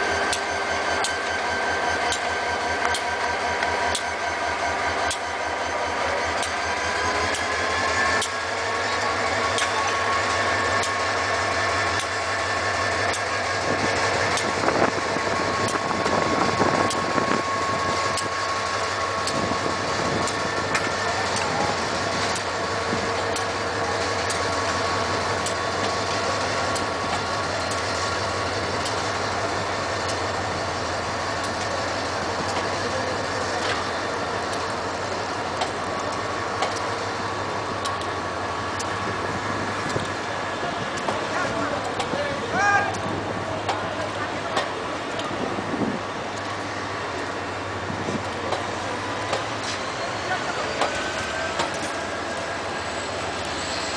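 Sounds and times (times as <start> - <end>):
constant whine: 0.0 - 53.9
diesel locomotive engine running: 0.0 - 53.9.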